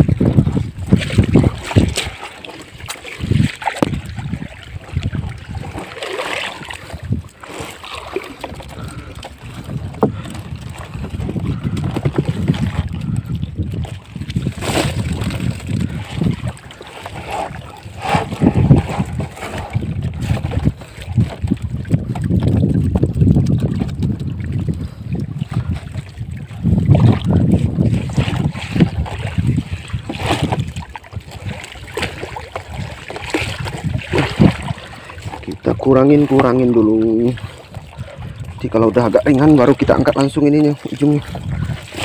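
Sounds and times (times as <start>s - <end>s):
water splashing and sloshing: 0.0s - 42.0s
wind rumbling on microphone: 0.0s - 42.0s.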